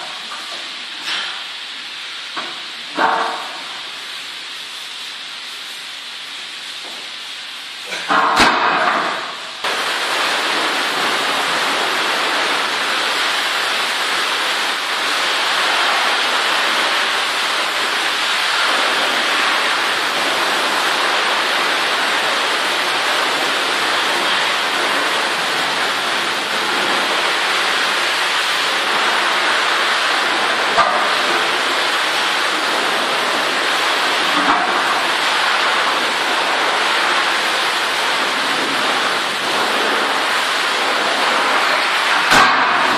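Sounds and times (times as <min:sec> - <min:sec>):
loud steady hiss: 0:00.0 - 0:42.9.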